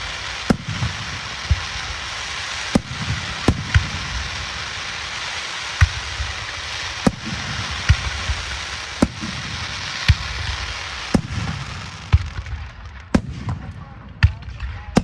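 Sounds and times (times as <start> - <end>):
steady hiss: 0.0 - 14.2
fireworks bangs: 0.0 - 15.0.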